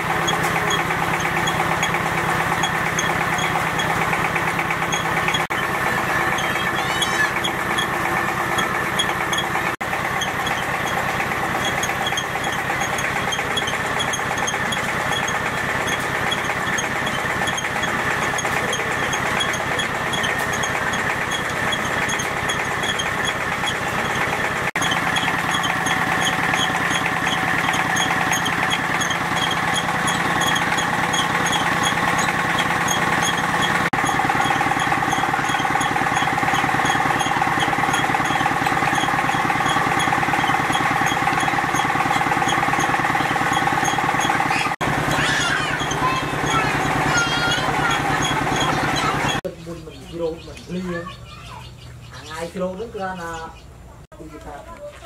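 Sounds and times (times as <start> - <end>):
fast regular ticking: 0.0 - 49.5
grinder machine hum: 0.0 - 49.5.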